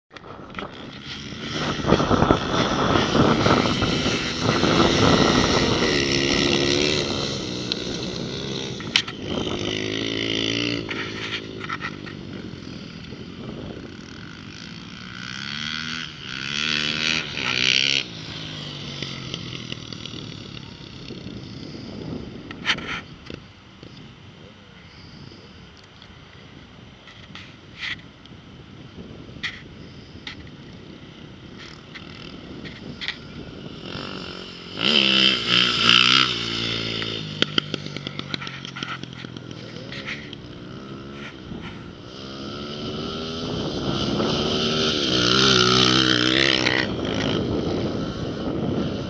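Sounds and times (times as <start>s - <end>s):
dirt bike engines revving: 0.1s - 49.0s.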